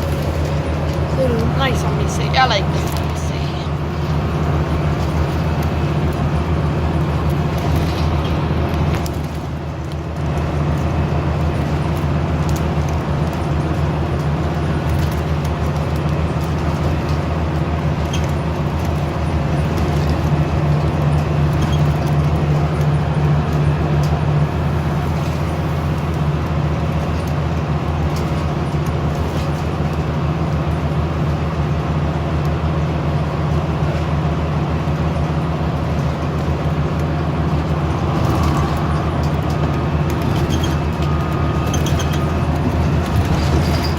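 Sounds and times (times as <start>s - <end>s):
bus engine drone: 0.0s - 43.9s
road and body noise: 0.0s - 43.9s.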